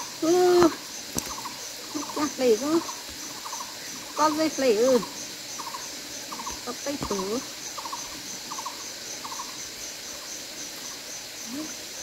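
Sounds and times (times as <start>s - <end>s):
insects chirping: 0.0s - 12.0s
shallow stream hissing: 0.0s - 12.0s.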